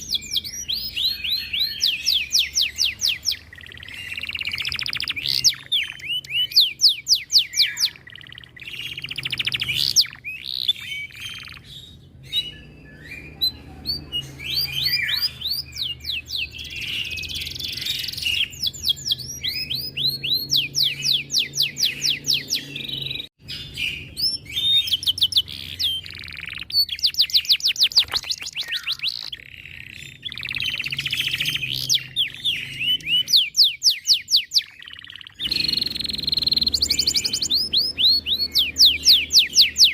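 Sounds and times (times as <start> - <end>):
canary trilling: 0.0 - 39.9.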